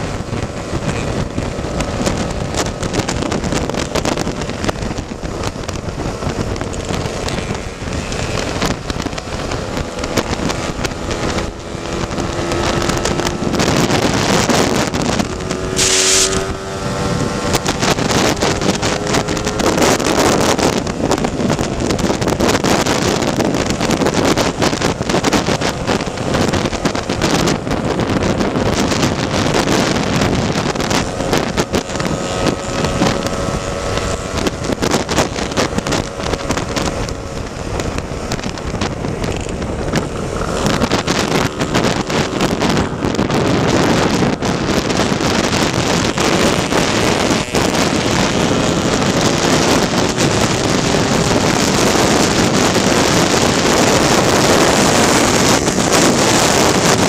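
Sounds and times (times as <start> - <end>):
scooter engine running: 0.0 - 57.0
wind noise on microphone: 0.0 - 57.0.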